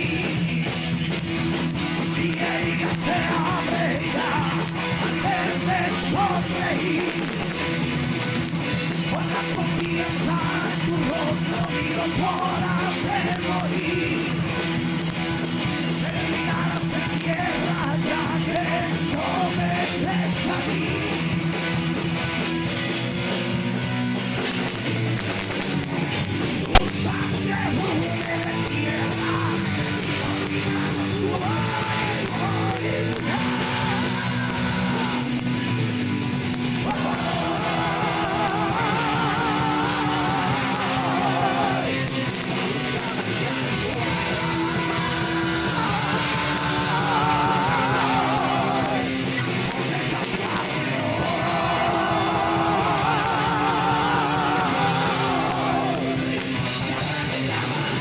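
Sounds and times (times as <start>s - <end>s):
person singing: 0.0s - 1.0s, 1.9s - 7.6s, 9.0s - 14.6s, 15.9s - 21.4s, 26.6s - 35.5s, 36.8s - 58.0s
rock band playing: 0.0s - 58.0s.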